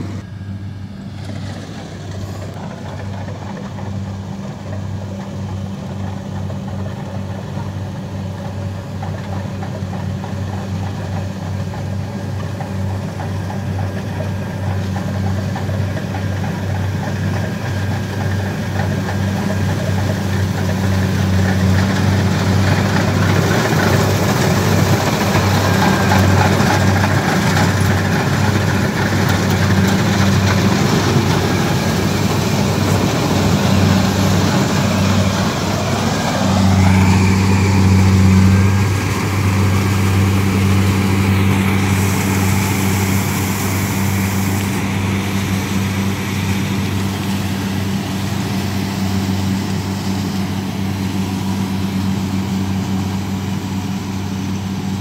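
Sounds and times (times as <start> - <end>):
combine harvester engine hum: 0.0 - 55.0
machinery clatter: 1.0 - 55.0.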